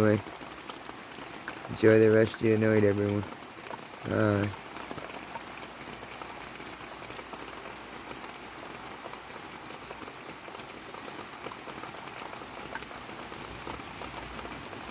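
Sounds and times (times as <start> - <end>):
heavy rain falling: 0.0 - 14.9.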